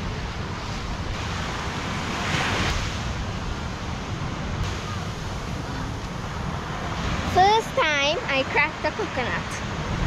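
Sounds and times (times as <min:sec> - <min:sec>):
sea surf: 0:00.0 - 0:10.0
wind on microphone: 0:00.0 - 0:10.0.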